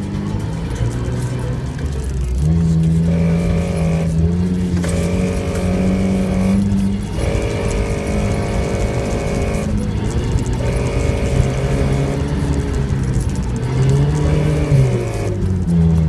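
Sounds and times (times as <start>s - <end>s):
engine pulling under load: 0.0s - 16.0s.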